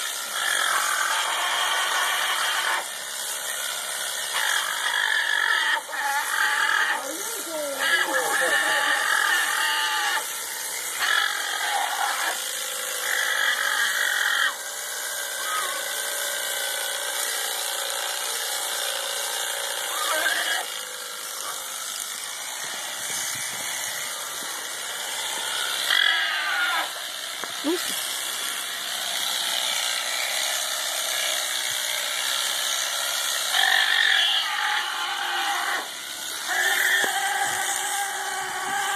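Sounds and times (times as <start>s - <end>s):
electric shears running: 0.0s - 38.9s.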